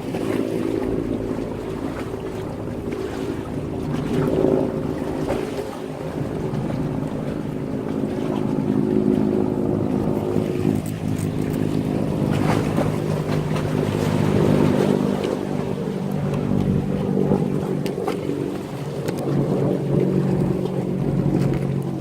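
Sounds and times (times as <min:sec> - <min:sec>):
boat engine humming: 0:00.0 - 0:22.0
sea waves washing: 0:00.0 - 0:22.0.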